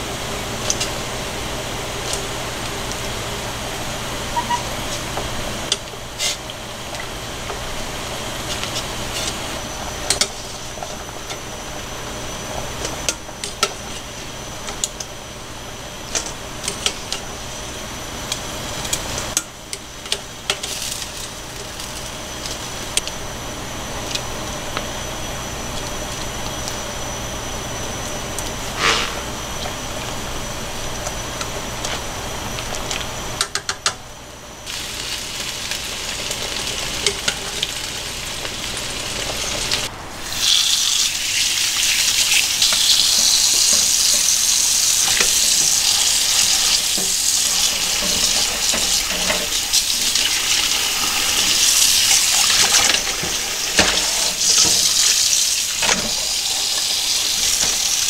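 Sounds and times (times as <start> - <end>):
water boiling in pot: 0.0 - 58.0.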